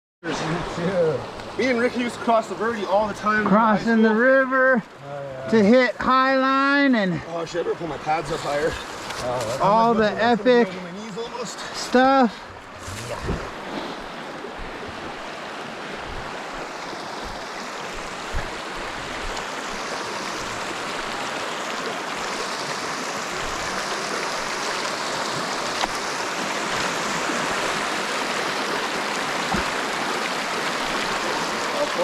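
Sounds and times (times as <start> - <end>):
rushing river water: 0.2 - 32.0.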